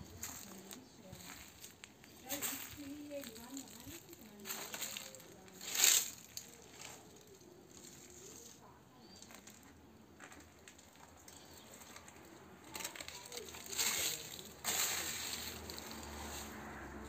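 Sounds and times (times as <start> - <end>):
crunching rustle: 0.0 - 17.0
faint rustling: 0.0 - 17.0
faint voices: 0.0 - 17.0.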